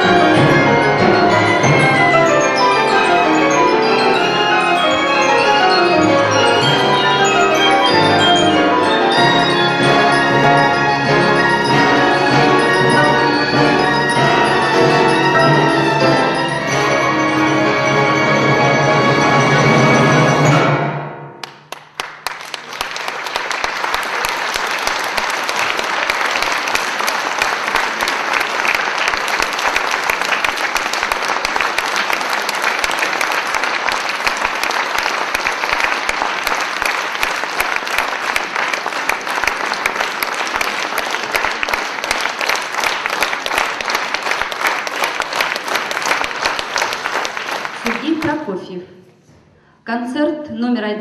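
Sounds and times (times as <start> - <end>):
large audience applauding: 0.0 - 17.5, 21.4 - 48.5.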